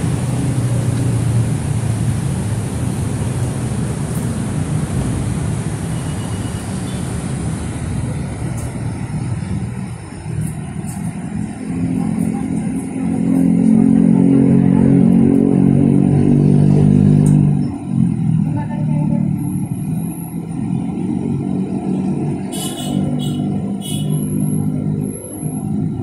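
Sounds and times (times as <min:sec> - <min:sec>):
engine humming: 0:00.0 - 0:26.0
traffic rumbling: 0:00.0 - 0:26.0.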